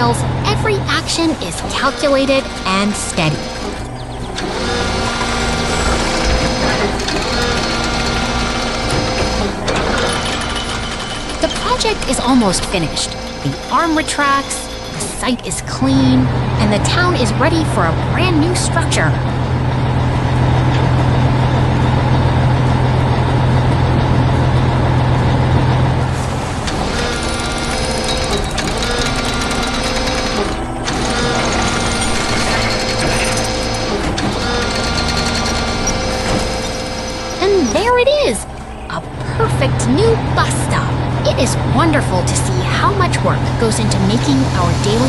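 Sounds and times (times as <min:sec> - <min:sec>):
heavy machine engine drone: 0:00.0 - 0:45.0
mechanical whirring and clattering: 0:00.0 - 0:45.0.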